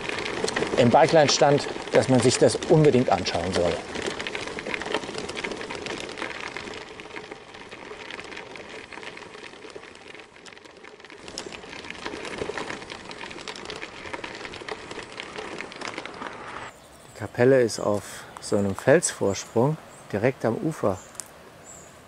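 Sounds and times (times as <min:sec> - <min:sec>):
bicycle tyres rolling over gravel: 0:00.0 - 0:22.0.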